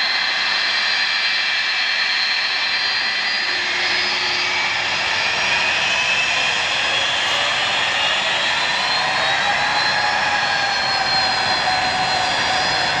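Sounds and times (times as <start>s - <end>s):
jet engines running with whine: 0.0s - 13.0s.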